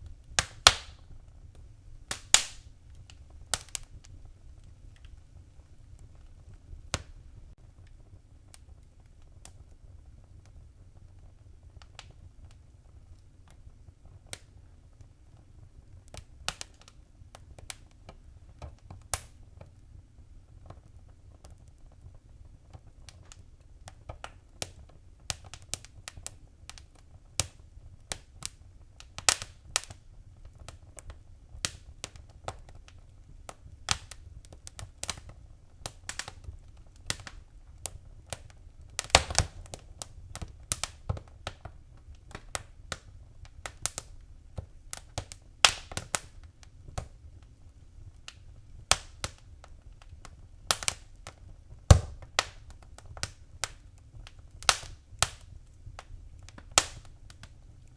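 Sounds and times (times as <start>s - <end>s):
low steady background noise: 0.0s - 57.9s
wood fire crackling: 0.0s - 57.9s.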